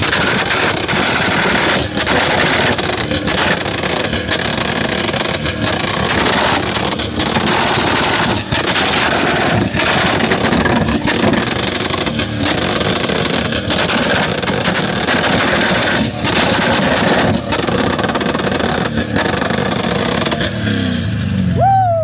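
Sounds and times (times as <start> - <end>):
loud car engine and exhaust: 0.0 - 22.0.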